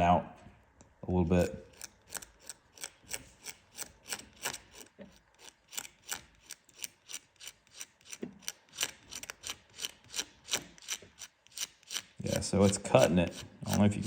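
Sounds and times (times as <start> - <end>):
razor blade scraping epoxy: 1.4 - 14.0.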